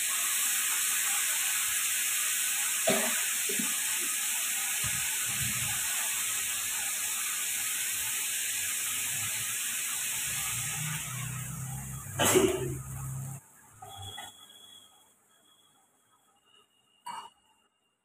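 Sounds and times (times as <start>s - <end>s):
food sizzling in a frying pan: 0.0s - 14.7s.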